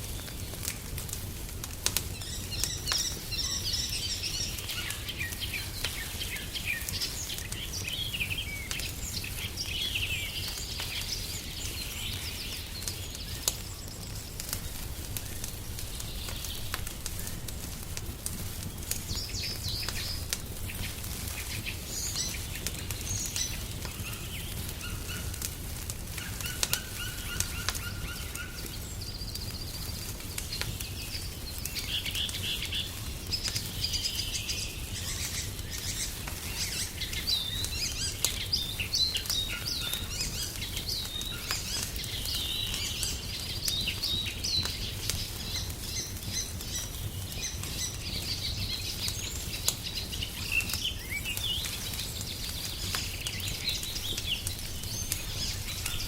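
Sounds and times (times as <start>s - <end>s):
fire crackling and popping: 0.0s - 56.0s
fire low rumble: 0.0s - 56.0s
songbirds chirping: 0.0s - 56.0s.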